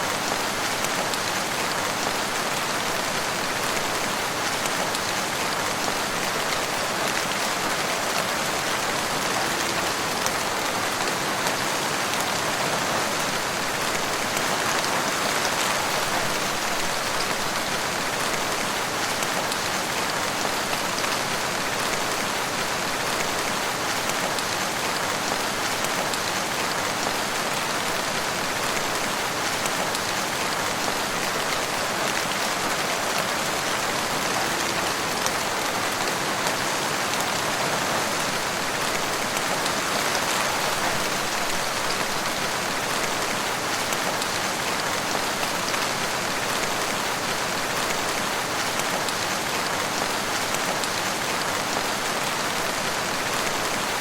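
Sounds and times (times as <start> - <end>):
rain on leaves and ground: 0.0 - 54.0.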